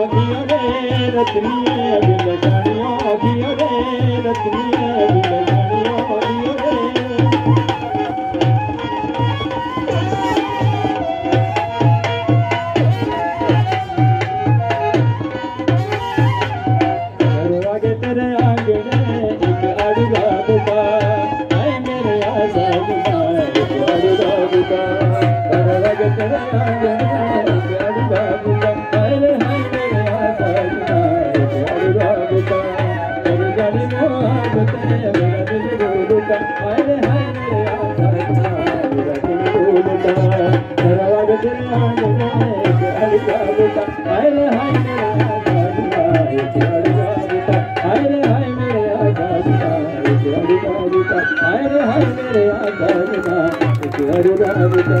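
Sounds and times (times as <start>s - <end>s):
drums beating fast rhythm: 0.0s - 55.0s.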